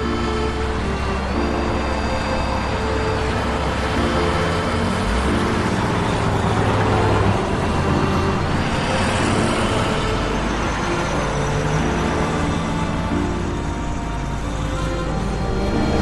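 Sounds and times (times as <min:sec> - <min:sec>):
held low music notes: 0:00.0 - 0:16.0.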